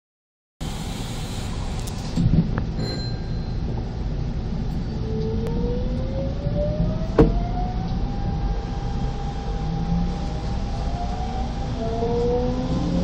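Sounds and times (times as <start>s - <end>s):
electric train rumble and whine: 0.6s - 13.0s.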